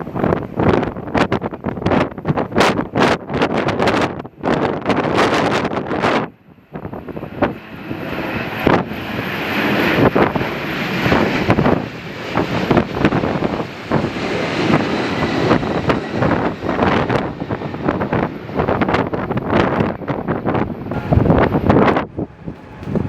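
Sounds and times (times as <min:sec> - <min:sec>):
jet engines: 0:00.0 - 0:23.0
wind buffeting microphone: 0:00.0 - 0:23.0.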